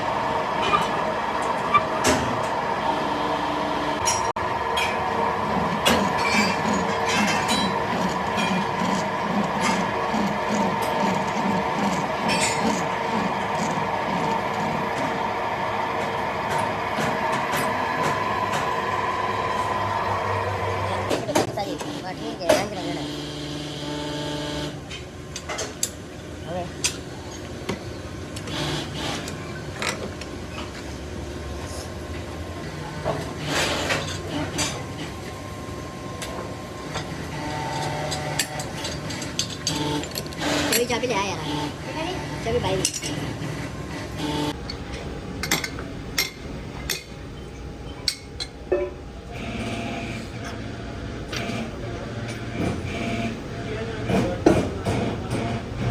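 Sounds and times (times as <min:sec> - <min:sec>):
factory machinery humming: 0:00.0 - 0:24.9, 0:31.2 - 0:55.9.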